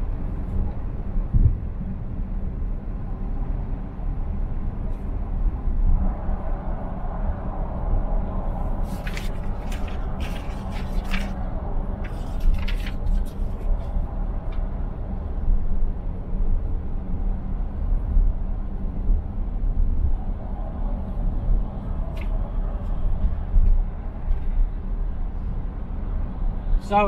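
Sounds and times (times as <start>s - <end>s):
road and engine drone in car: 0.0s - 27.0s.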